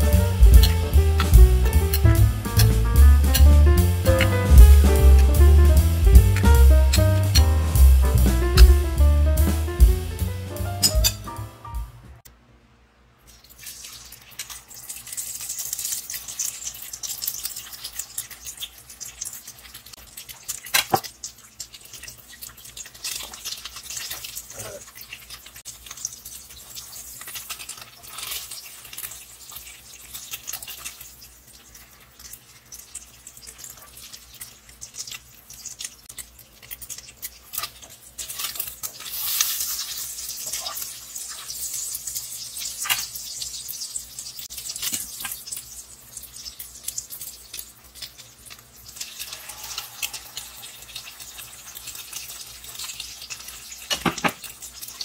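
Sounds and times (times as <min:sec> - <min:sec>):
omelette sizzling in hot oil: 0:00.0 - 0:08.7, 0:13.2 - 0:55.0.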